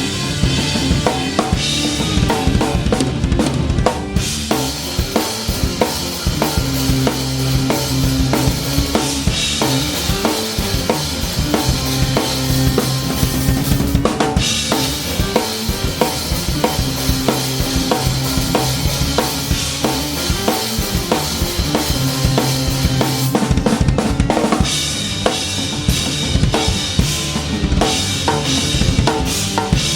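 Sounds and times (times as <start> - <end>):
rock band playing live: 0.0 - 29.9.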